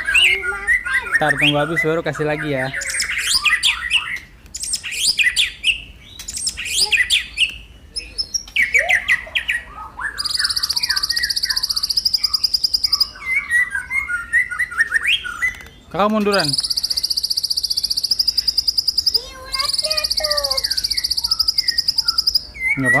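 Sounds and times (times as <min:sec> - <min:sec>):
bird buzzy trill: 0:00.0 - 0:23.0
small bird chirping: 0:00.0 - 0:23.0.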